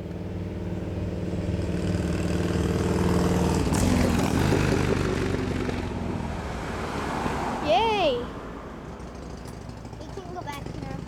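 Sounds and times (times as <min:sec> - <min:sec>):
small vehicle engine passing: 0:00.0 - 0:11.0.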